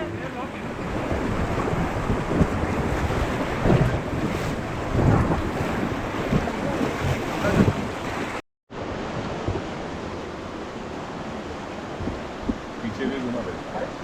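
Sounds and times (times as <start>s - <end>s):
wind buffeting microphone: 0.0s - 13.9s
rushing river water: 0.0s - 14.0s.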